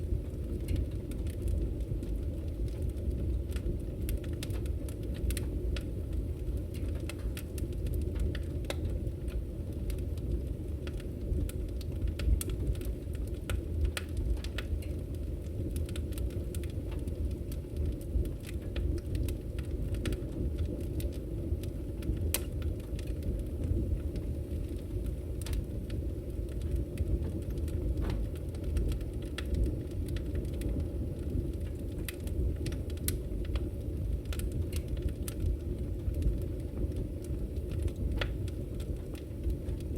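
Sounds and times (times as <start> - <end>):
fire crackles and pops: 0.0 - 39.9
fire rumbling in a wood stove: 0.0 - 39.9.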